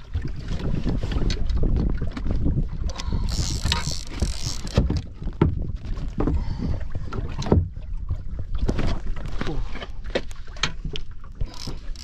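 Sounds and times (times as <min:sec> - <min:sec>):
water slapping boat hull: 0:00.0 - 0:12.0
wind rumble on microphone: 0:00.0 - 0:12.0.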